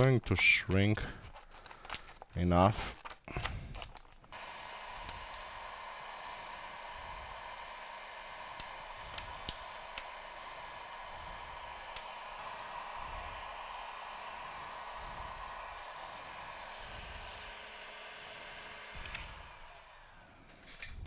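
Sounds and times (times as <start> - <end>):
heat gun blowing: 2.9 - 21.0.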